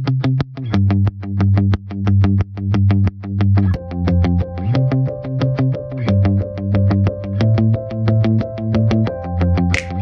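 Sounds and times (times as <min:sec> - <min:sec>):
instrumental music with synth chords: 0:01.6 - 0:10.0.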